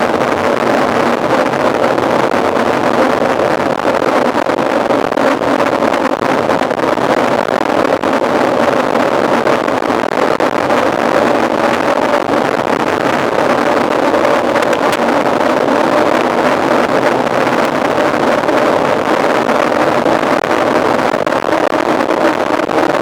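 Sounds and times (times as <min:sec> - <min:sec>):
faint steady hum: 0:00.0 - 0:23.0
wind rushing on microphone: 0:00.0 - 0:23.0.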